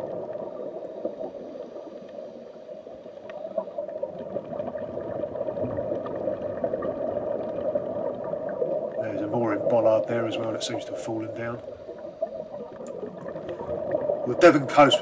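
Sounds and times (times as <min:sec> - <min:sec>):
gurgle of exhaled bubbles: 0:00.0 - 0:15.0
muffled underwater crackling hiss: 0:00.0 - 0:15.0.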